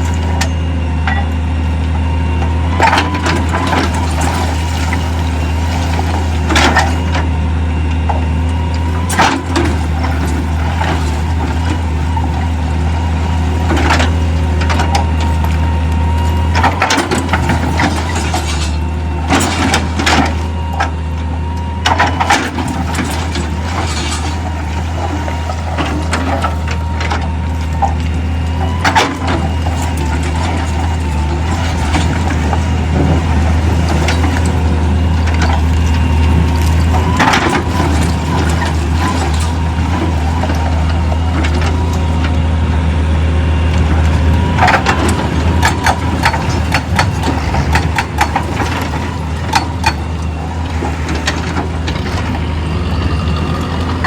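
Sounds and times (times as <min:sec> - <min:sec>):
stone-crushing machinery drone: 0:00.0 - 0:54.0.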